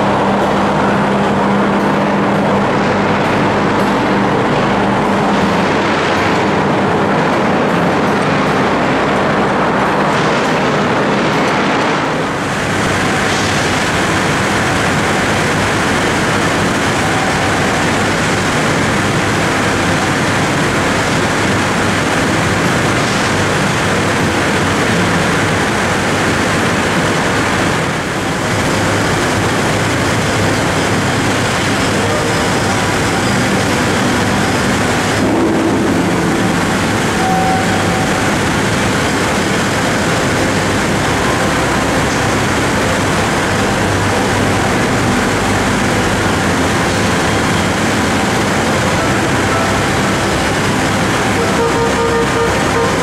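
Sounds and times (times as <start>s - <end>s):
industrial furnace roar: 0.0s - 53.0s
low hum: 0.0s - 53.0s.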